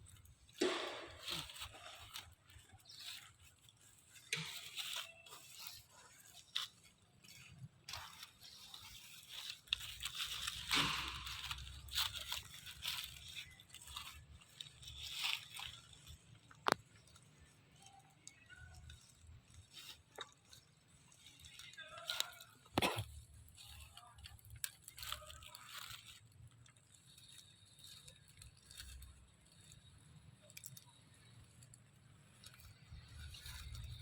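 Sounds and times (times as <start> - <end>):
monkeys crunching and tearing food: 0.0 - 34.0.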